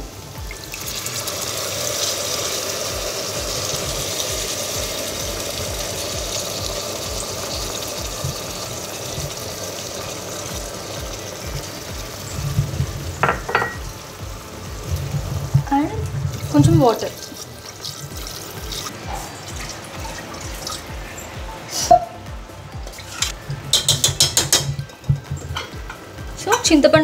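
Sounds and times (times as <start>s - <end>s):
liquid sizzling in hot pan: 0.0s - 27.0s.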